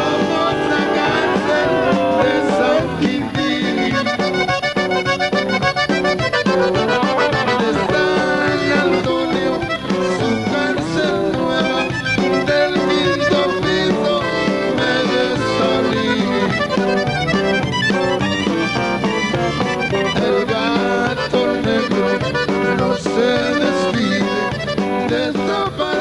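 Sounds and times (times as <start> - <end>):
accordion melody: 0.0 - 26.0
live band music: 0.0 - 26.0.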